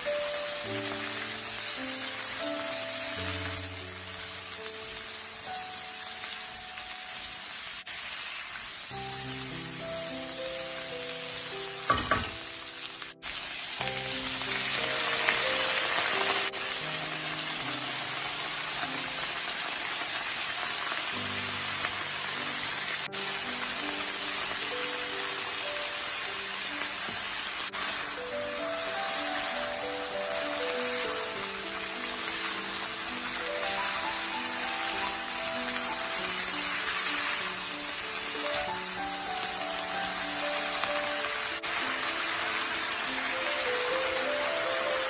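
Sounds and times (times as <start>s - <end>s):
soft background music: 0.0s - 45.0s
vegetables sizzling in a pan: 0.0s - 45.0s.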